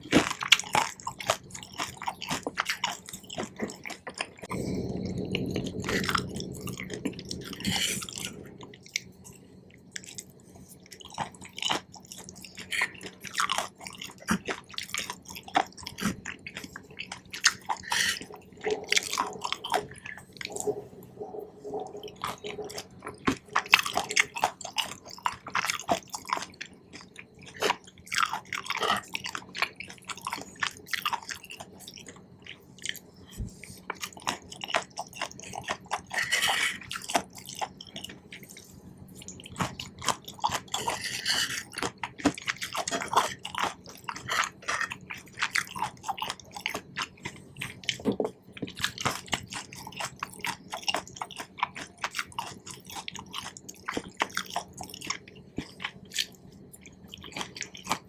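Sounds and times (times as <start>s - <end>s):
close chewing mouth clicks: 0.0s - 4.5s, 7.4s - 58.0s.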